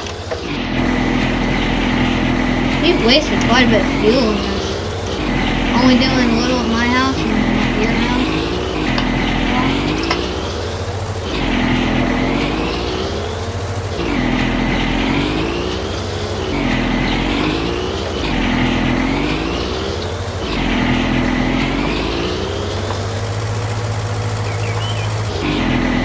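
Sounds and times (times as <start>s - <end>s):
garden tractor mower engine: 0.0s - 26.0s.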